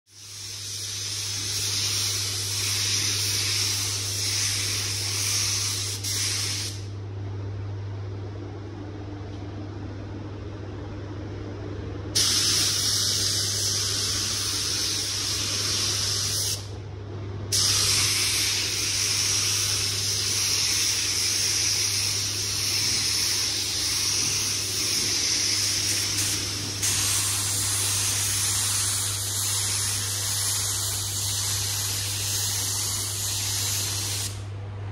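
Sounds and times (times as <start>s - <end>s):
spray gun hissing: 0.1s - 6.9s, 12.2s - 16.7s, 17.5s - 34.4s
steady low hum: 0.1s - 34.9s.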